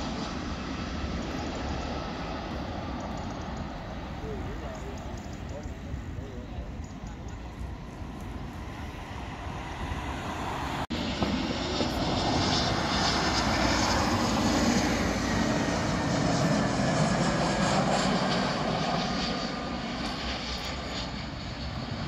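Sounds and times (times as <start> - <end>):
jet airliner passing low: 0.0 - 22.0.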